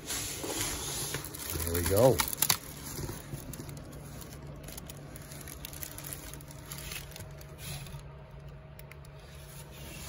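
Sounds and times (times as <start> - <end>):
plastic wrapping crinkling: 0.0 - 10.0
steady low hum: 0.0 - 10.0.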